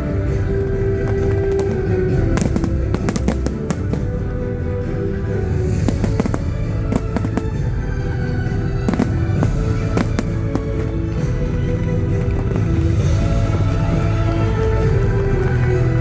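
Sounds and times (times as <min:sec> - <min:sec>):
fireworks bangs and crackles: 0:00.0 - 0:16.0
loud music: 0:00.0 - 0:16.0.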